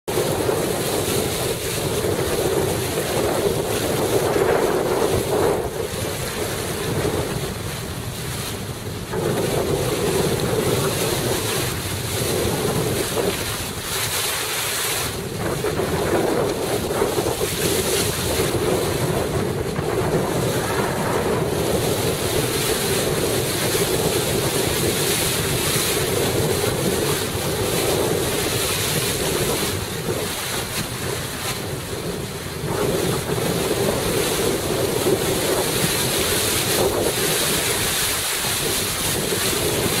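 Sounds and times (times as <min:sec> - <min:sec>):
waves washing around boat: 0:00.0 - 0:40.0
wind buffeting microphone: 0:00.1 - 0:40.0.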